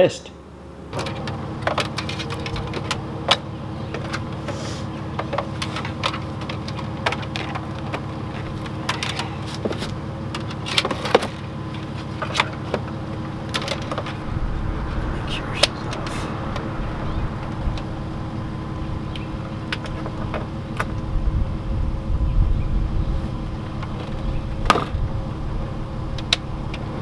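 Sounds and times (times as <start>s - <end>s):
van engine idling: 0.2s - 27.0s.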